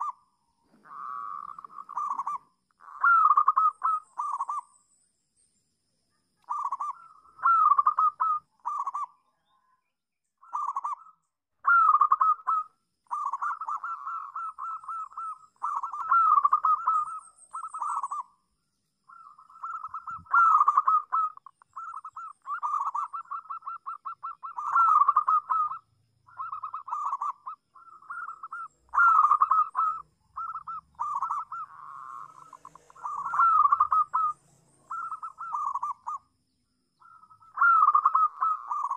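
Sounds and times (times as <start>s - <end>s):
dove cooing: 0.0s - 4.7s, 6.4s - 9.3s, 10.4s - 18.4s, 19.1s - 36.3s, 37.0s - 38.9s.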